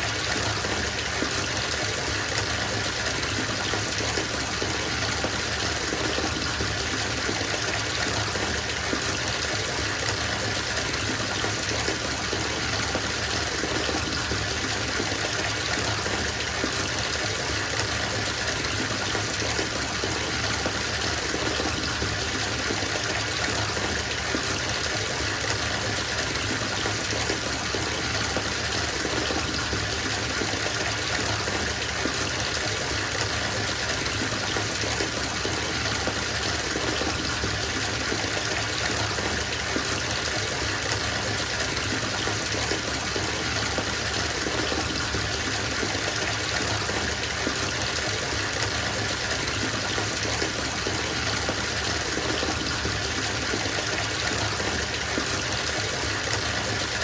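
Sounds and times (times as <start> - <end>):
water pouring into bathtub: 0.0 - 57.0.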